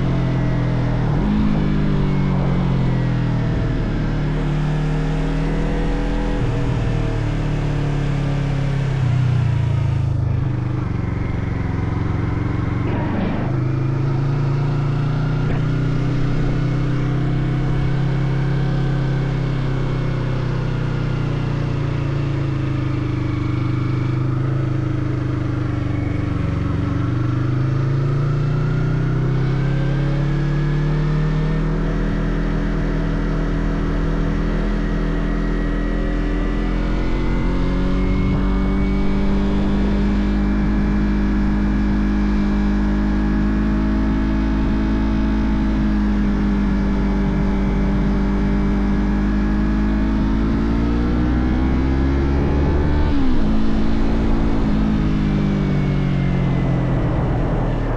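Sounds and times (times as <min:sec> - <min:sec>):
motorcycle engine running: 0:00.0 - 0:30.5, 0:31.5 - 0:57.9.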